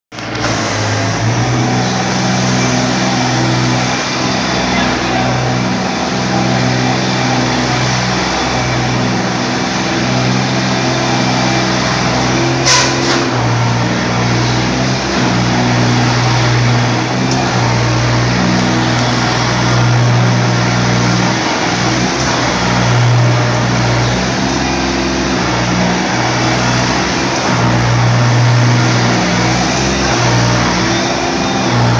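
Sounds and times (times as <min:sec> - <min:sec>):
tractor diesel engine running: 0:00.1 - 0:31.9.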